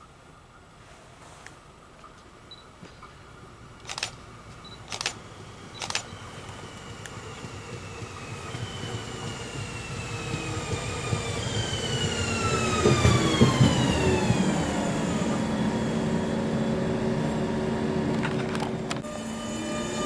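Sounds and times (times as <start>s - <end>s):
train drive whine: 0.0s - 20.0s
electric train approaching: 3.3s - 20.0s.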